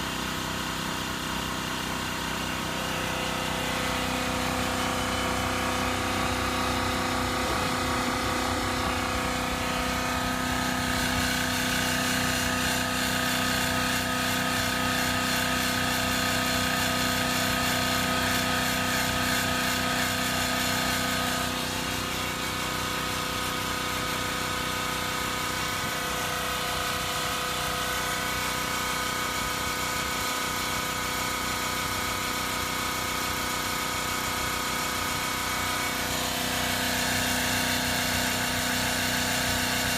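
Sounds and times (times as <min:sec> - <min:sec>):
electric air compressor running: 0:00.0 - 0:39.9.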